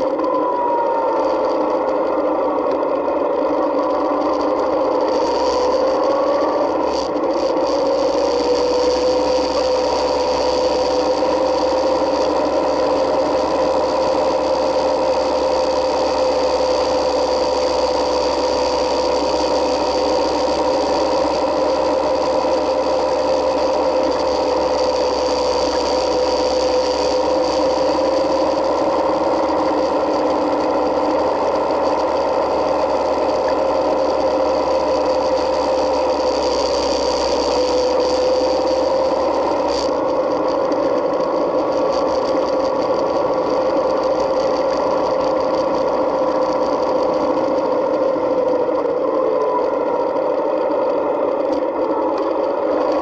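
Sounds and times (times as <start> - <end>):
road and wind noise: 0.0 - 53.0
motorcycle engine running: 1.2 - 53.0.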